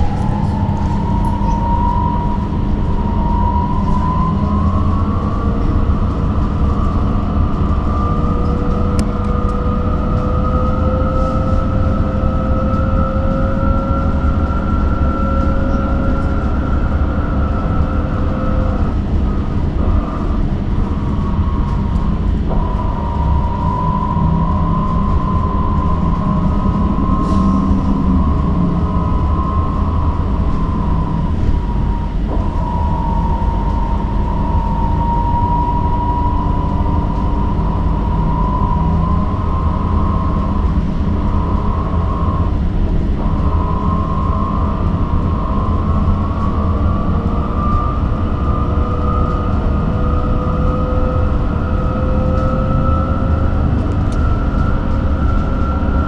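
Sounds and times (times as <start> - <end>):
road rumble inside bus: 0.0 - 56.0.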